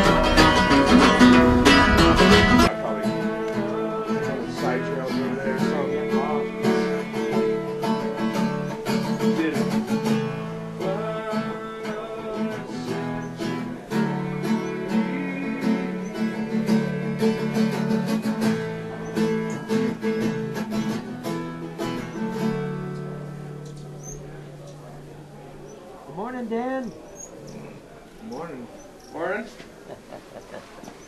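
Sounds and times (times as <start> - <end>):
acoustic guitar strumming: 0.0 - 28.8.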